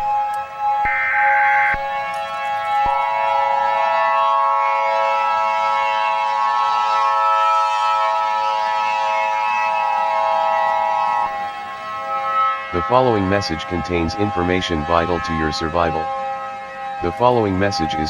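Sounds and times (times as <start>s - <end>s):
emergency alert tones: 0.0s - 18.0s
low electronic drone: 0.0s - 18.0s.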